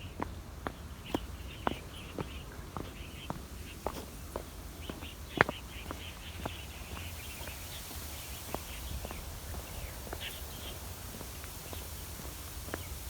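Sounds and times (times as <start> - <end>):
footsteps walking: 0.2 - 13.0.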